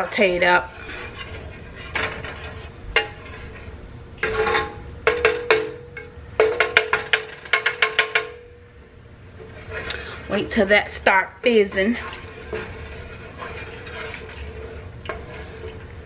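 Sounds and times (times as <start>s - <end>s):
spatula scraping metal pan: 0.0s - 8.5s, 9.3s - 16.0s.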